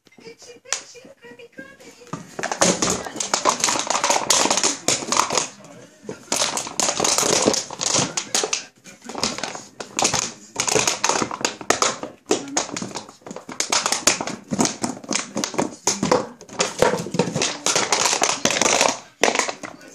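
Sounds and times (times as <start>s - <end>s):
dog chewing plastic bottle: 2.1s - 19.9s.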